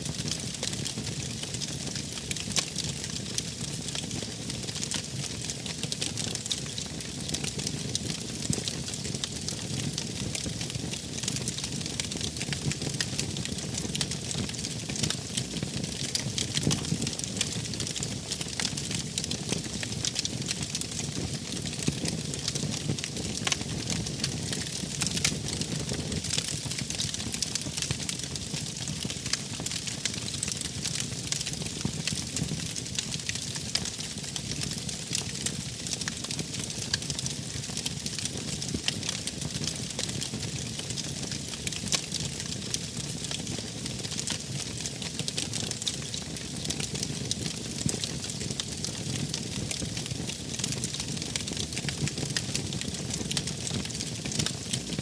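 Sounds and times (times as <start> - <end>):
fire crackles and pops: 0.0 - 55.0
wood fire rumbling and hissing: 0.0 - 55.0.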